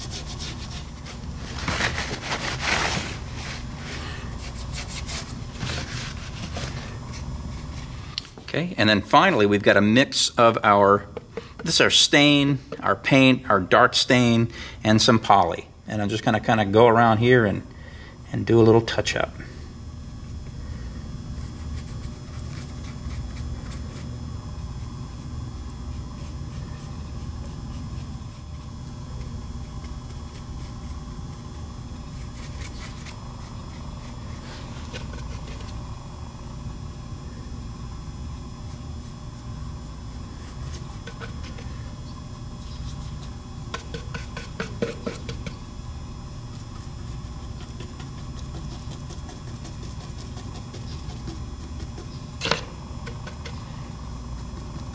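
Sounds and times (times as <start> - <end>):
low machine hum: 0.0 - 54.9.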